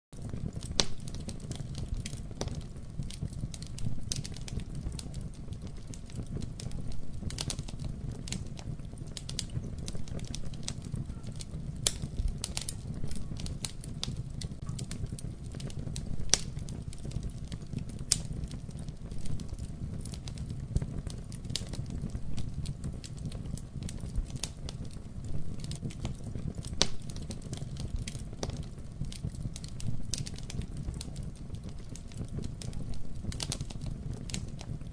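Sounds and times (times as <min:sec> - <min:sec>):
wood fire crackling: 0:00.2 - 0:34.9.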